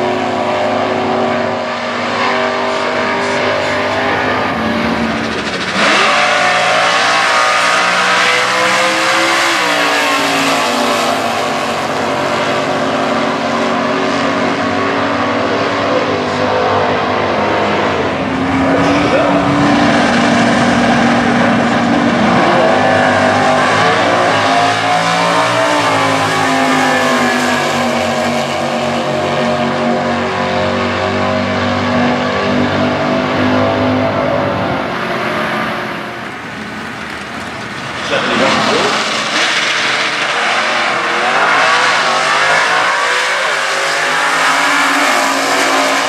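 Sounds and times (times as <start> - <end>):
drag racing car engines revving: 0.0 - 46.0.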